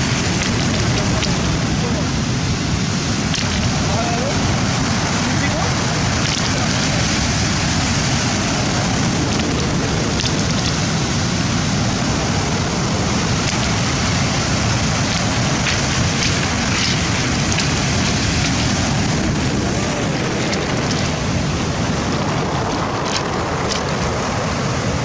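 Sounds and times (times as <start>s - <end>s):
rough sea surf rushing: 0.0s - 25.0s
wind buffeting microphone: 0.0s - 25.0s.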